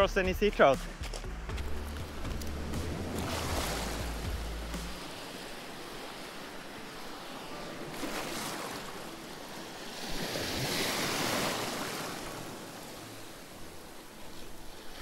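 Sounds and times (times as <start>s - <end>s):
waves washing over stony shore: 2.8s - 15.0s.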